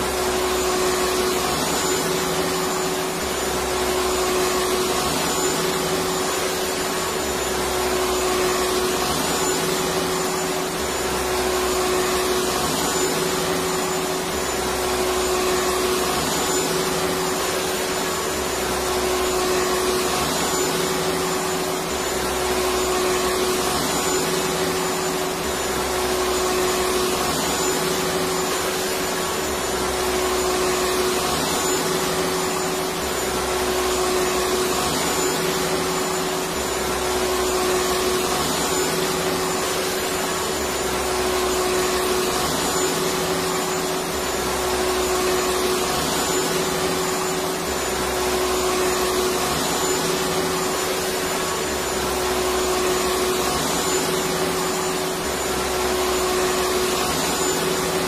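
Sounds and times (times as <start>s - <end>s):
vacuum cleaner motor running: 0.0s - 58.0s.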